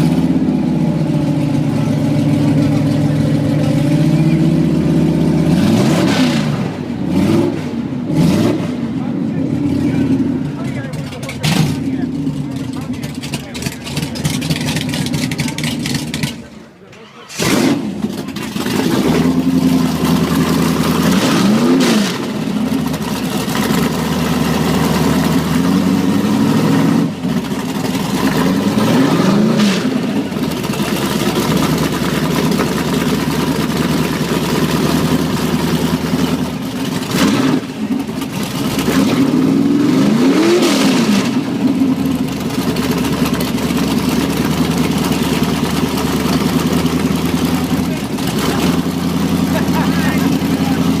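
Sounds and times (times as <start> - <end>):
drag car engine idling and revving: 0.0 - 51.0.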